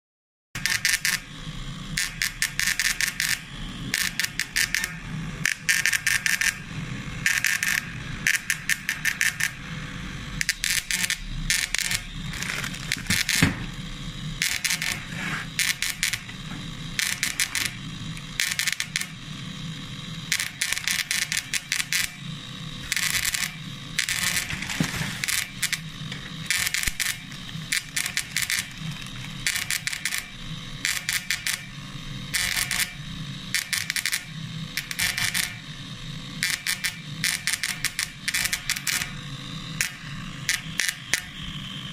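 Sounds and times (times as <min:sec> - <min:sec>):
steady low hum: 0:00.6 - 0:41.9
welder electrode crackling and buzzing: 0:00.6 - 0:41.9.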